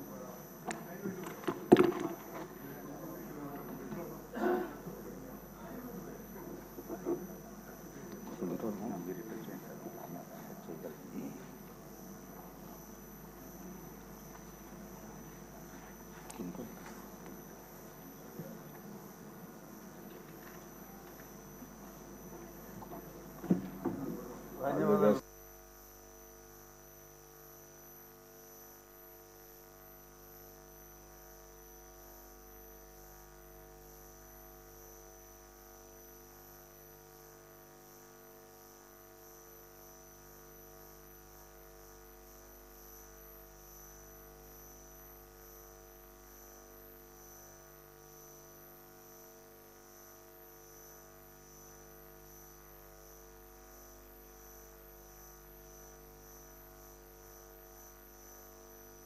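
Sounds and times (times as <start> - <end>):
faint high-pitched whine: 0.0 - 59.0
low electrical hum: 0.0 - 59.0.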